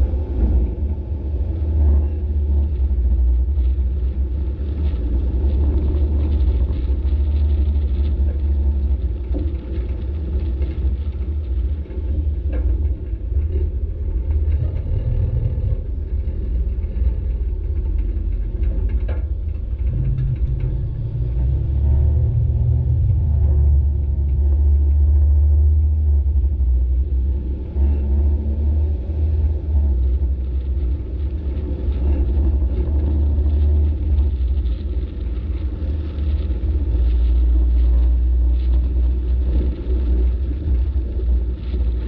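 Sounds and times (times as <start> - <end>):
truck engine and road rumble: 0.0 - 42.0.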